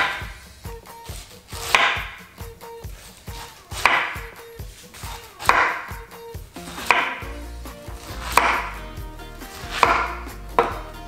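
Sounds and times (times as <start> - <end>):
knife striking wooden cutting board: 0.0 - 2.3, 3.0 - 8.8, 9.5 - 10.9.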